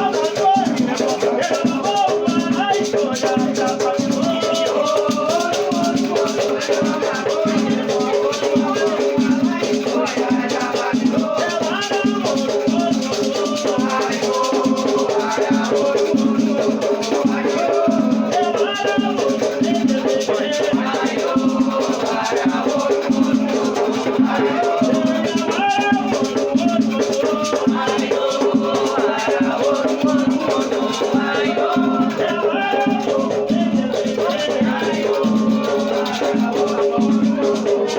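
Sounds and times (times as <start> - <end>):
drumming: 0.0 - 37.9
people singing: 0.0 - 37.9
shaker rattle: 0.0 - 37.9
voices chanting: 0.0 - 37.9.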